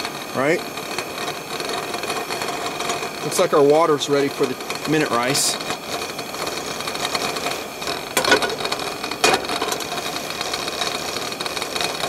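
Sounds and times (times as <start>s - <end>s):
camp stove burner hissing: 0.0s - 12.0s.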